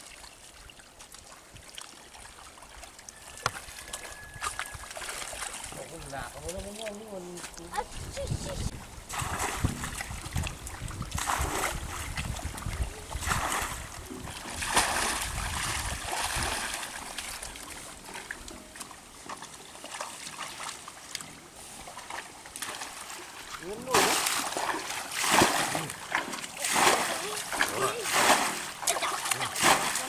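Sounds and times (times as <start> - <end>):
splashing in muddy water: 1.0 - 30.0.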